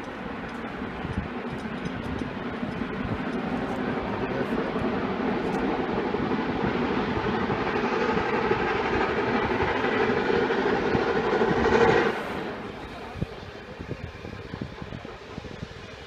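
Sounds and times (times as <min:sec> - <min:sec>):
steam locomotive rumbling: 0:00.0 - 0:16.0.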